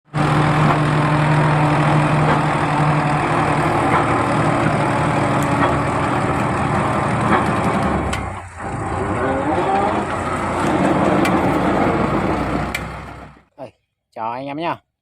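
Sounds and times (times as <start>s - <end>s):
tractor engine rumbling: 0.0s - 13.6s.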